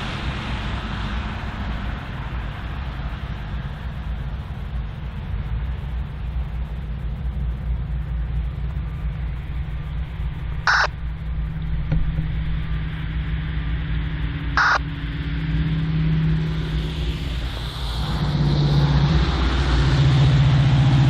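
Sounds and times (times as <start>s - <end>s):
diesel locomotive engine rumble: 0.0s - 21.0s
engine hum: 0.0s - 21.0s.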